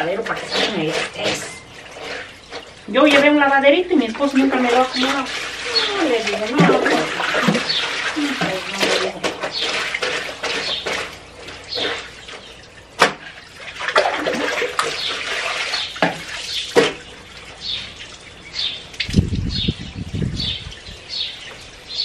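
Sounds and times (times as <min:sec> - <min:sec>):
wet rubbing of clothes: 0:00.0 - 0:12.6, 0:13.3 - 0:19.6.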